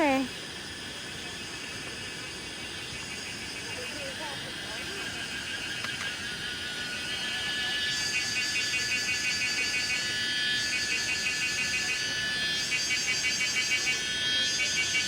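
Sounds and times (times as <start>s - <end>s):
cicadas shrilling: 0.0s - 15.0s.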